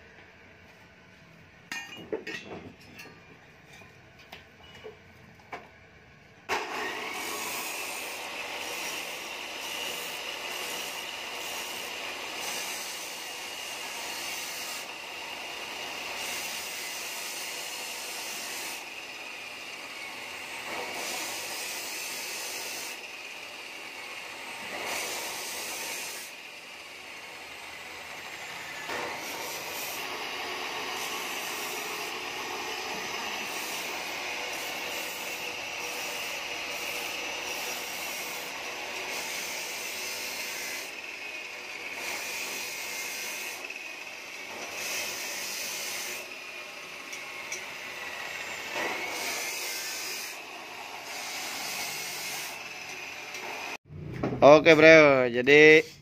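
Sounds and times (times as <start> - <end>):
angle grinder whining on steel: 6.5 - 56.0.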